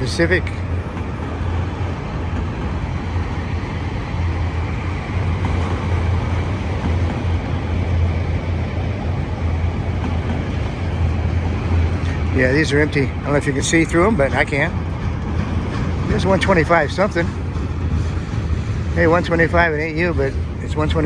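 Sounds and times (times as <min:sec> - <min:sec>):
freight cars rolling on rails: 0:00.0 - 0:21.0.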